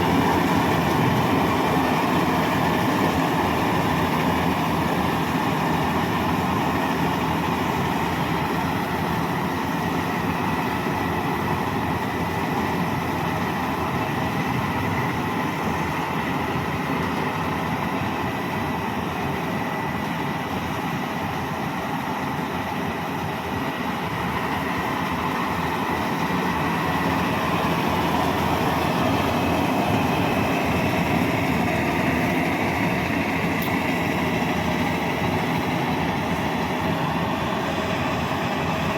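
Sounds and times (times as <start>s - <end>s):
combine harvester droning: 0.0s - 38.9s
thin steady whine: 0.0s - 38.9s.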